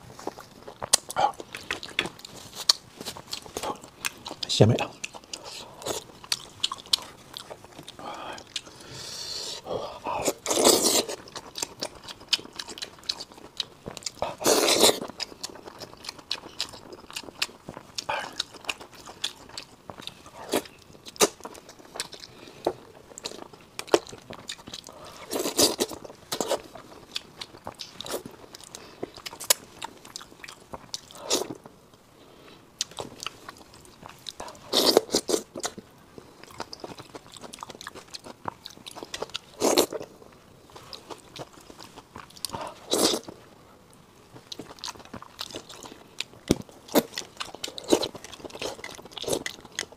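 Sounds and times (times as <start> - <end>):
chewing and sucking meat: 0.0 - 31.7, 32.8 - 43.6, 44.3 - 49.9.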